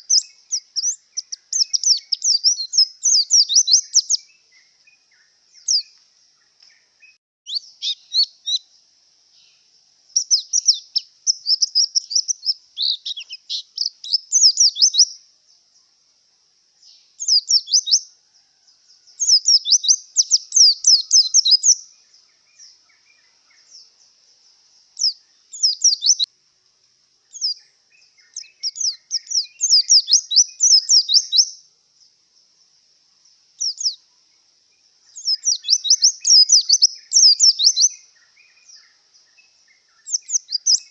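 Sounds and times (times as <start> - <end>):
bird twittering chirps: 0.0 - 16.0, 16.7 - 26.3, 27.2 - 40.9
faint steady hiss: 0.0 - 40.9.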